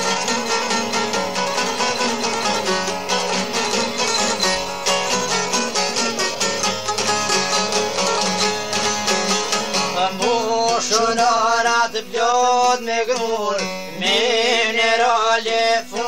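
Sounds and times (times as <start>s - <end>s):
plucked lute notes: 0.0s - 16.0s.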